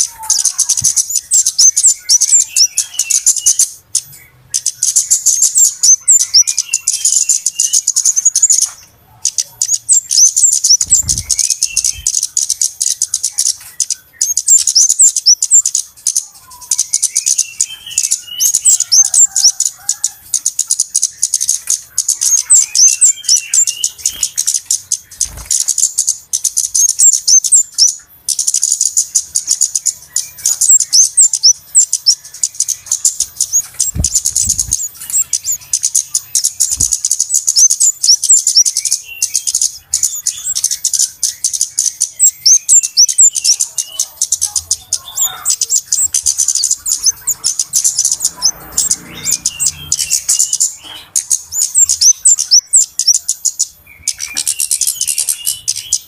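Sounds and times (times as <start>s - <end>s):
high-pitched bird chirping: 0.0s - 56.0s.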